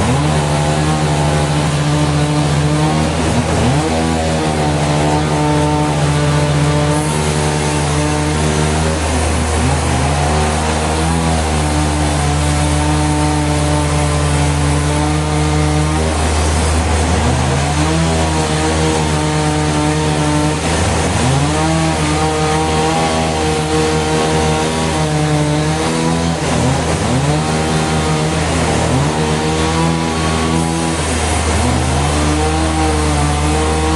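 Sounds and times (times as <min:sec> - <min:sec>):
saw cutting timber: 0:00.0 - 0:33.9
sawmill engine running: 0:00.0 - 0:33.9.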